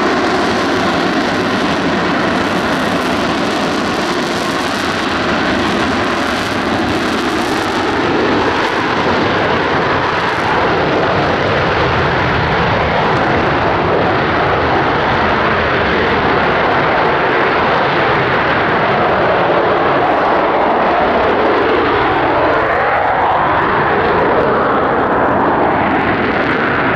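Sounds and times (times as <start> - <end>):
jet engine roaring: 0.0 - 26.9.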